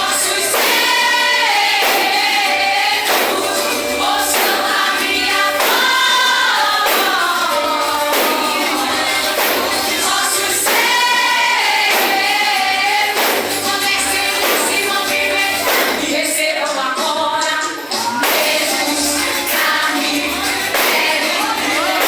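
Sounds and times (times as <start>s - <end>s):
musical accompaniment with beat: 0.0s - 22.0s
vocal group singing gospel: 0.0s - 22.0s.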